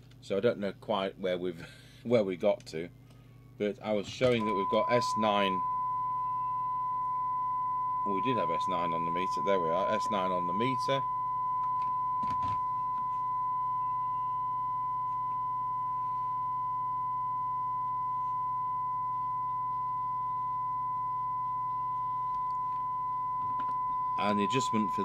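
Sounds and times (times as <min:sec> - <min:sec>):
low hum: 0:03.4 - 0:25.0
steady test tone from speaker: 0:03.9 - 0:25.0.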